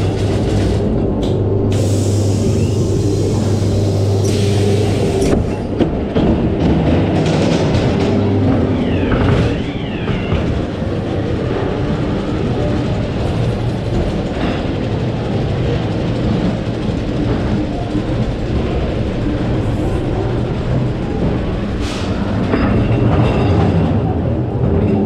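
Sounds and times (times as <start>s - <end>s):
ride car rumbling on track: 0.0s - 25.0s.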